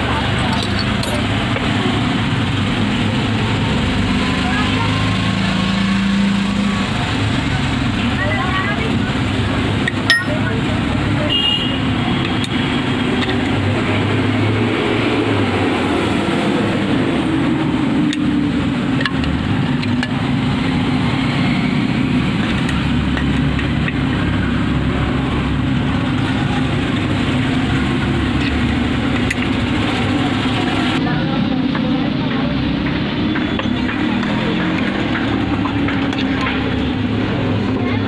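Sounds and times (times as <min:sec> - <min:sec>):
indistinct voices: 0:00.0 - 0:38.0
road traffic: 0:00.0 - 0:38.0.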